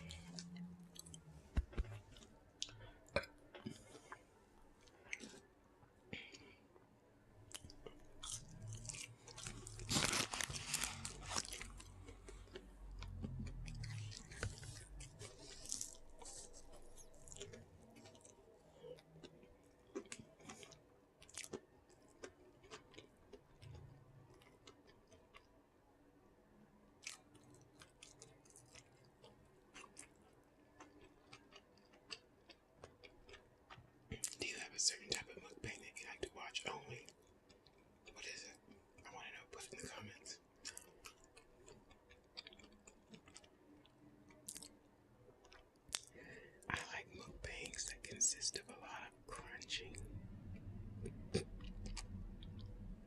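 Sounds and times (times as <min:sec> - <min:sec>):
chewing clicks and crackles: 0:07.5 - 0:25.6, 0:27.0 - 0:53.0.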